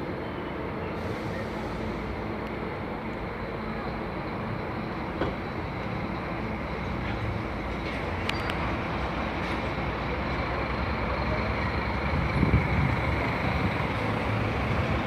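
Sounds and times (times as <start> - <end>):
diesel engine running: 1.0 - 15.0.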